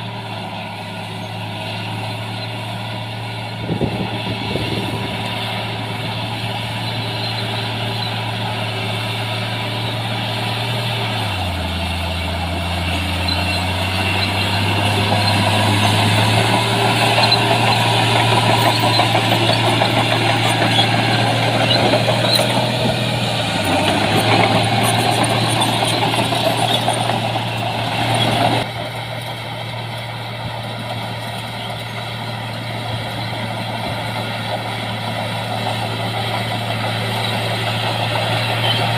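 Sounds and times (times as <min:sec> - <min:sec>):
heavy diesel engine under load: 0:00.0 - 0:38.9.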